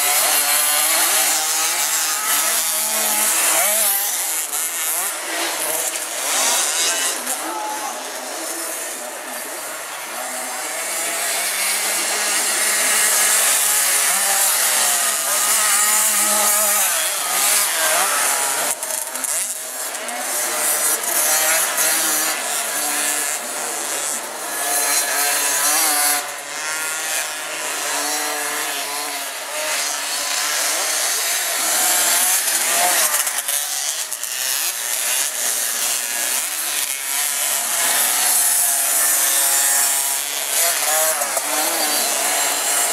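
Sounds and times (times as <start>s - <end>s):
motocross bike engines buzzing: 0.0s - 42.9s.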